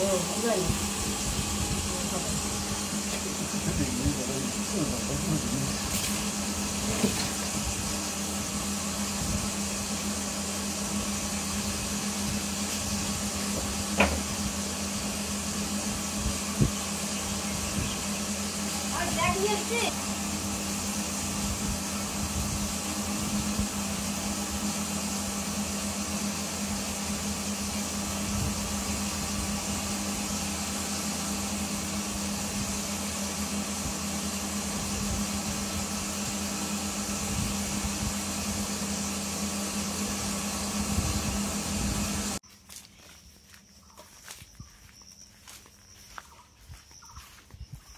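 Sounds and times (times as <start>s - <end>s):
machine motor humming and hissing: 0.0s - 42.4s.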